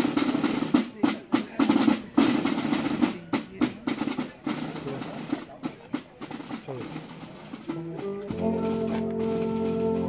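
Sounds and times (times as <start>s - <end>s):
band playing: 0.0s - 10.0s
snare drum rolls: 0.0s - 10.0s.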